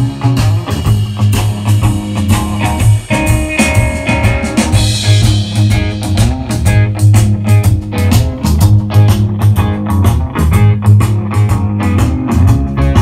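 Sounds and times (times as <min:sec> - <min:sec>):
rock music over loudspeakers: 0:00.0 - 0:13.0.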